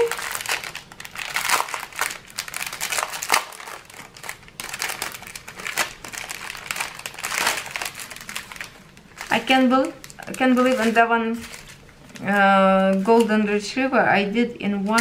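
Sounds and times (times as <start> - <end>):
plastic packaging crinkling: 0.0 - 13.7.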